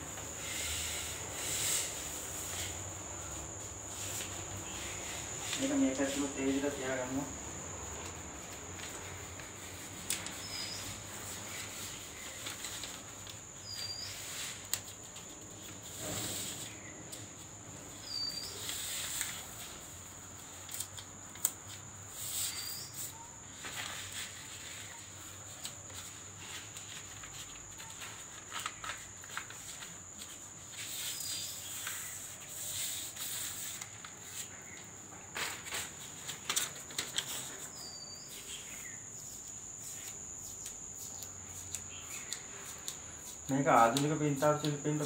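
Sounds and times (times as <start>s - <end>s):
newspaper rustling and crinkling: 2.0s - 7.2s, 8.0s - 45.0s.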